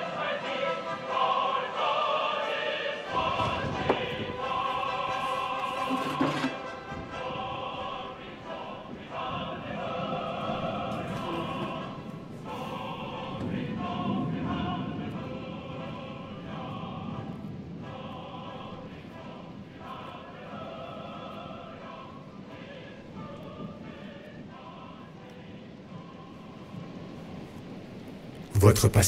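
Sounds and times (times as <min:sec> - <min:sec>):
choir singing held notes: 0:00.0 - 0:27.8.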